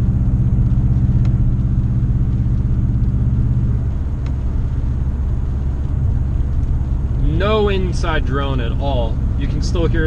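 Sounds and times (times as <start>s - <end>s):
car engine humming: 0.0s - 10.0s
road and tyre noise: 0.0s - 10.0s.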